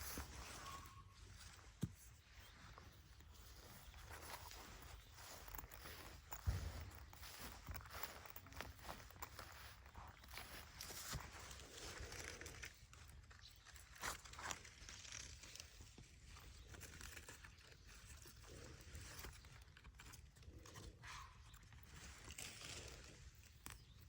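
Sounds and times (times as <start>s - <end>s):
footsteps through garden plants: 0.0s - 24.0s.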